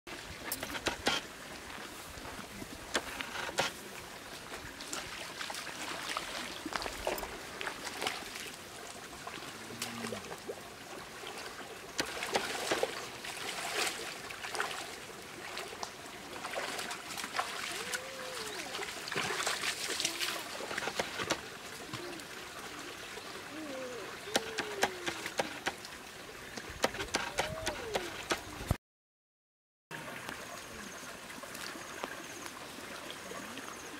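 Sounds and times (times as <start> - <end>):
stream trickling: 0.1 - 28.8, 29.9 - 33.9.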